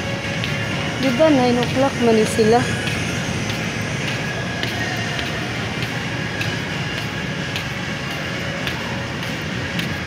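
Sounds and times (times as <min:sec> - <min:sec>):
rumbling background noise: 0:00.0 - 0:10.0.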